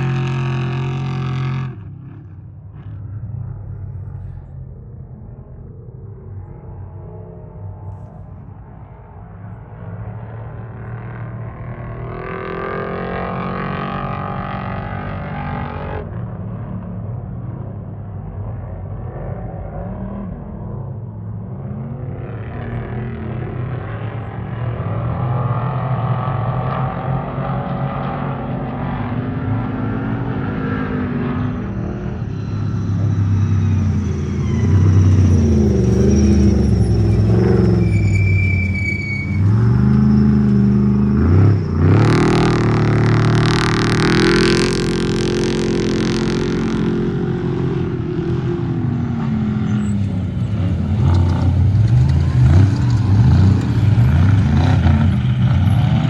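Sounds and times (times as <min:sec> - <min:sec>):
off-road race vehicle engines: 0:00.0 - 0:56.0.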